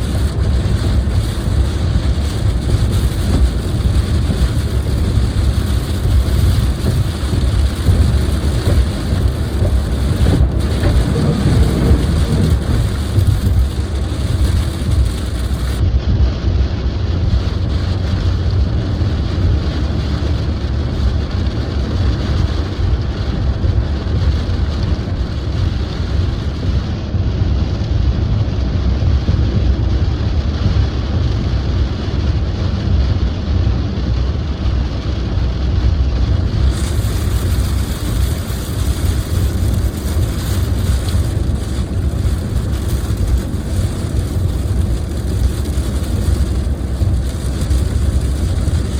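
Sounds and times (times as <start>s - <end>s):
car driving on wet road: 0.0s - 48.9s
light rain on car: 0.0s - 48.9s.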